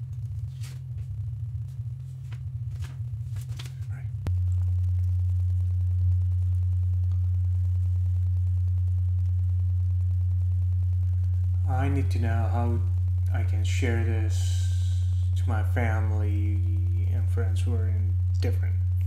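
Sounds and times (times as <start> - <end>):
low rumble: 0.0 - 19.0
steady low-pitched hum: 0.0 - 19.0.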